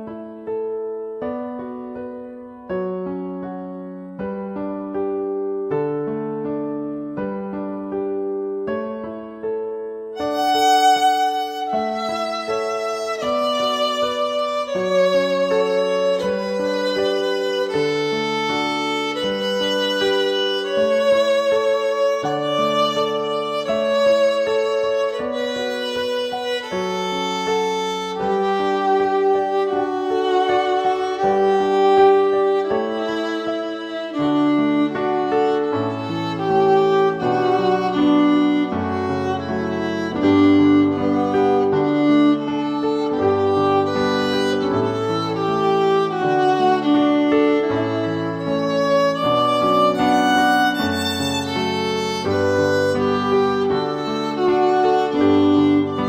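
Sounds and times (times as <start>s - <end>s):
violin melody: 0.0s - 56.0s.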